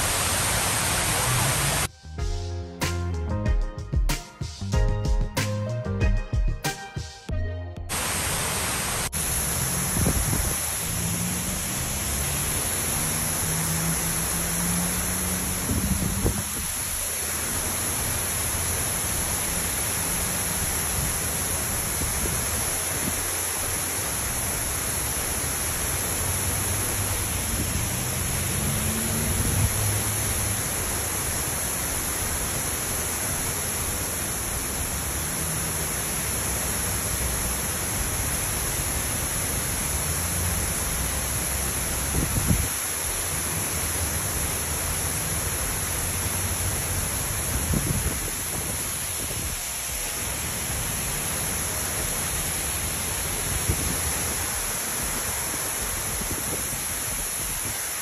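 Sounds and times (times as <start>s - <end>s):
water rushing down fountain wall: 0.0s - 1.9s, 7.9s - 58.0s.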